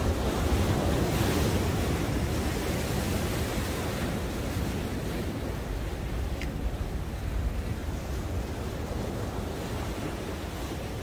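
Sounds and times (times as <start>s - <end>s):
waves crashing on rocks: 0.0s - 11.0s.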